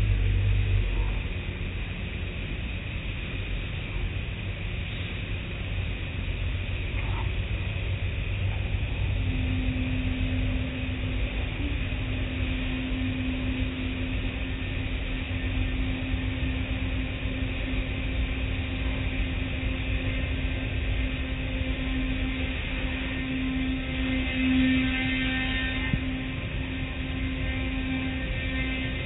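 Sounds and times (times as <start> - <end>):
car wash machinery rumbling: 0.0 - 29.0
steady hum: 0.0 - 29.0.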